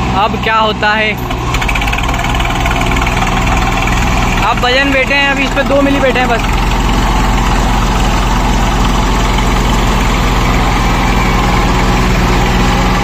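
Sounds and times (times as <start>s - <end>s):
diesel tractor engines running: 0.0s - 13.0s.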